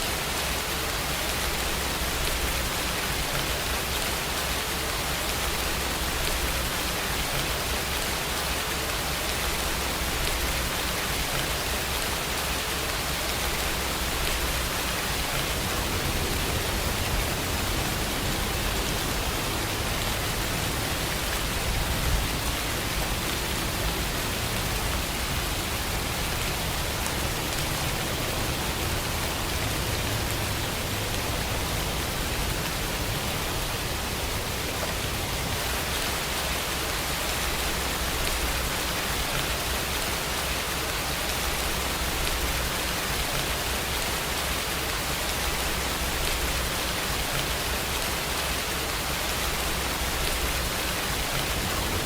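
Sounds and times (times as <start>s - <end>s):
steady rainfall: 0.0s - 52.0s.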